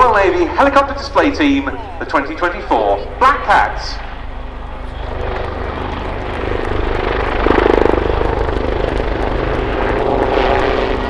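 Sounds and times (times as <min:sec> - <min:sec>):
helicopter rotors and engines thrum: 0:00.0 - 0:11.0.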